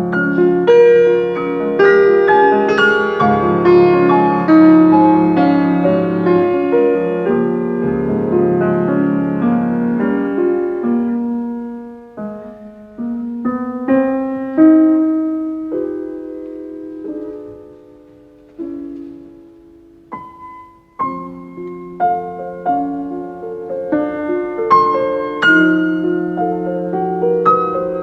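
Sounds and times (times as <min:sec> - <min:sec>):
solo piano music: 0:00.0 - 0:28.0.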